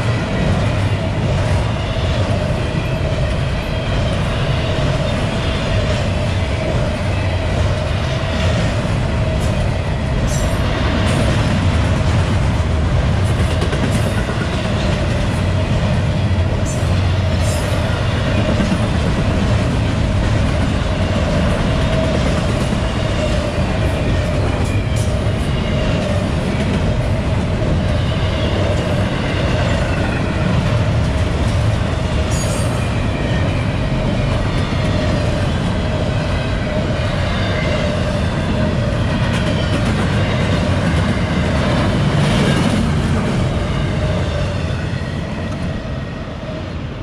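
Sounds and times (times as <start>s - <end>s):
freight train wheels rattling: 0.0s - 46.1s.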